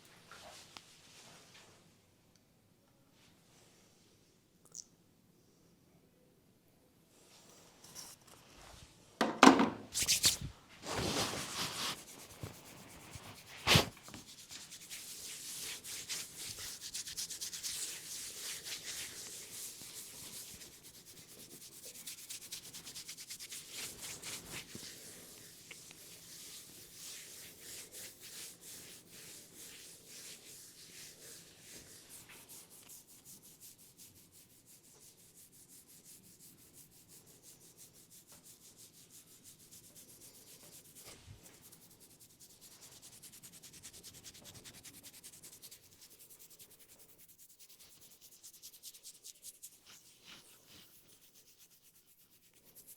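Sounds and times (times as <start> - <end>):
hands rubbing hair: 7.2 - 52.9.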